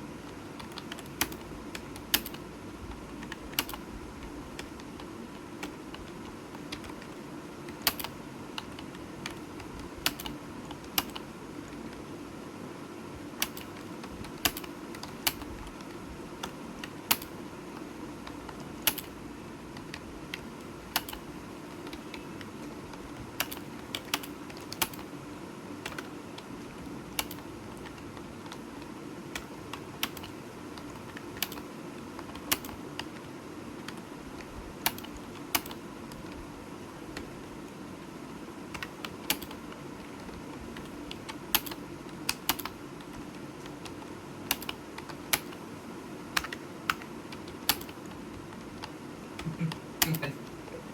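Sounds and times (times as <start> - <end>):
steady background hum: 0.0 - 50.9
computer keyboard keystrokes: 0.2 - 12.1, 13.4 - 25.1, 25.8 - 36.4, 38.7 - 45.7, 46.3 - 50.6.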